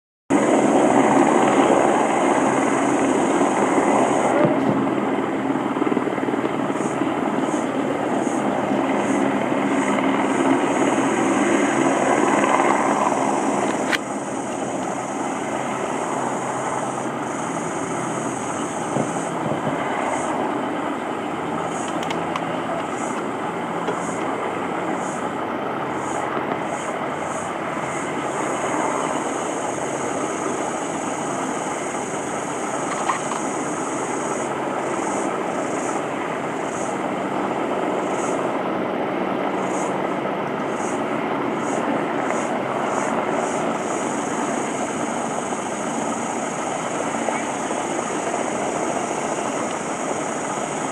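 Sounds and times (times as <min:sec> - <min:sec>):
distant motor engines droning: 0:00.3 - 0:50.9
high-pitched pulsing buzz: 0:00.3 - 0:50.9.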